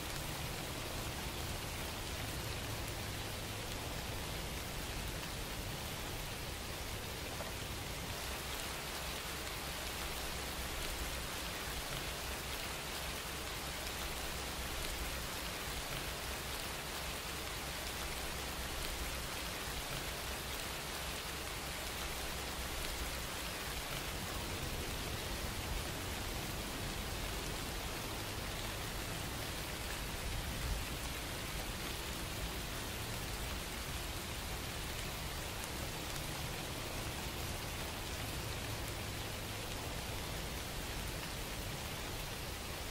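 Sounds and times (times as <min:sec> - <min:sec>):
rain-like hiss: 0:00.0 - 0:42.9.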